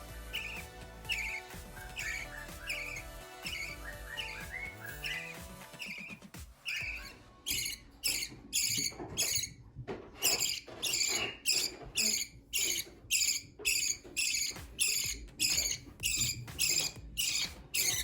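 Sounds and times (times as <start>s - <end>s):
baby bird begging calls: 0.3s - 6.0s, 6.6s - 9.5s, 10.3s - 18.0s.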